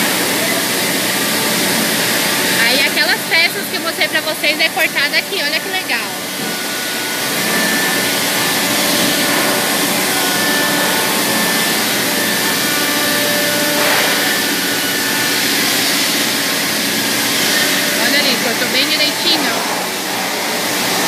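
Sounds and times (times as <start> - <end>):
trimming spindle rushing noise: 0.0 - 21.0.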